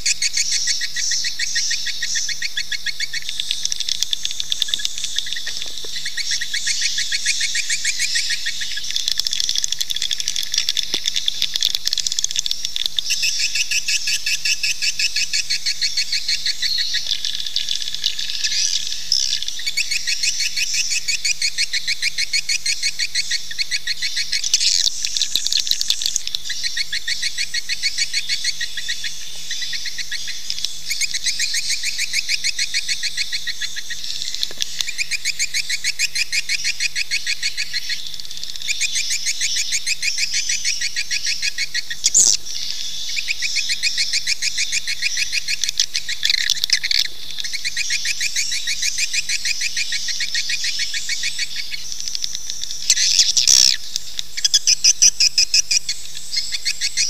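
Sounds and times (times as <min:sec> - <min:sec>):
high-pitched bird twittering: 0:00.0 - 0:38.0, 0:38.6 - 0:57.0.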